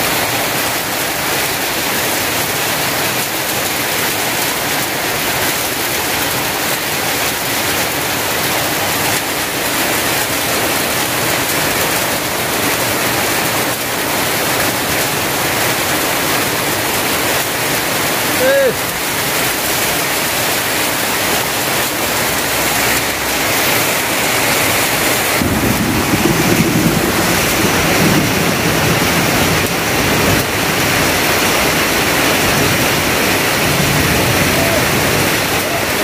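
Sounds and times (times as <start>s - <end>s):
heavy rain on roofs and tarps: 0.0s - 36.0s
runoff pouring off roof: 0.0s - 36.0s.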